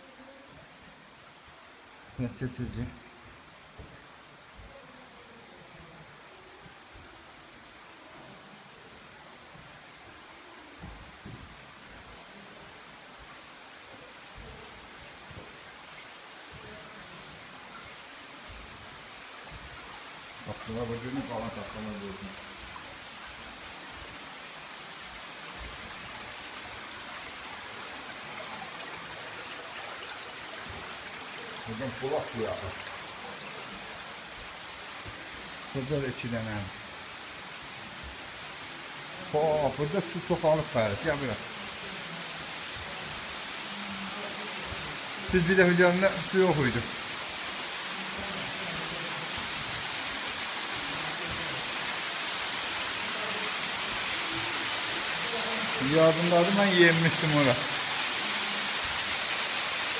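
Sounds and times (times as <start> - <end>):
stream rushing and trickling: 0.0 - 59.9.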